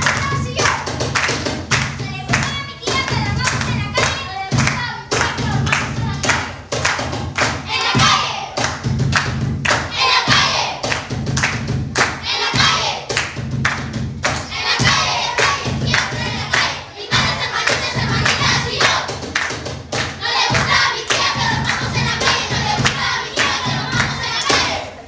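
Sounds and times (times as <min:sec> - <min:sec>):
steady thumping beat: 0:00.0 - 0:24.9.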